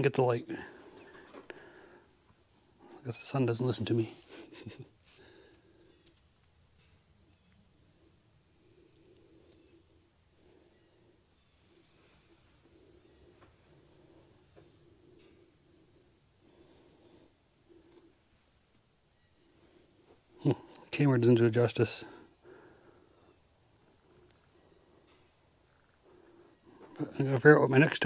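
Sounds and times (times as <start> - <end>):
faint low hum: 0.0 - 28.0
insects trilling: 0.0 - 28.0.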